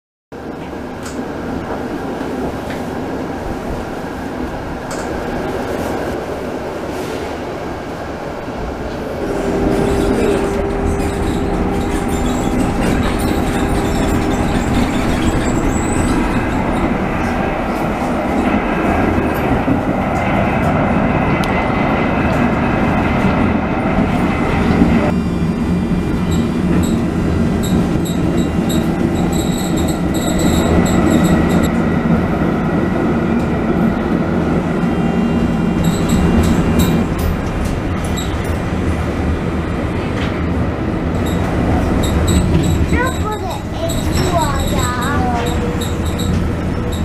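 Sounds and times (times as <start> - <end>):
tram motors and wheels rumbling: 0.3 - 47.0.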